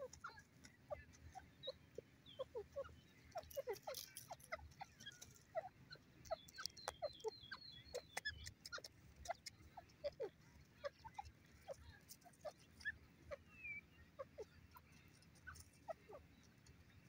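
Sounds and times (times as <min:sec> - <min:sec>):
low bird calls: 0:00.0 - 0:16.5.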